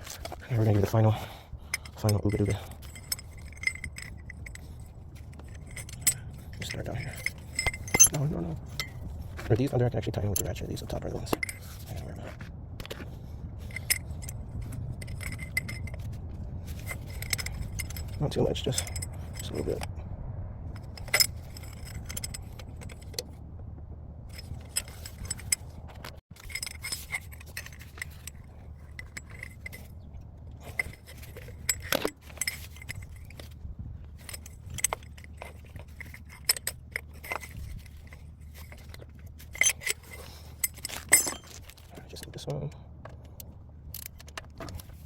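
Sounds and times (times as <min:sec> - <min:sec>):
metal tools clinking: 0:00.0 - 0:20.0, 0:20.6 - 0:23.4, 0:24.2 - 0:45.0.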